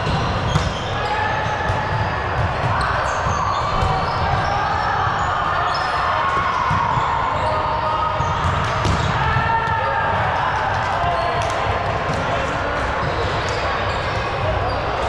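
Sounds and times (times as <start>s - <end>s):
players' voices echoing: 0.0s - 15.0s.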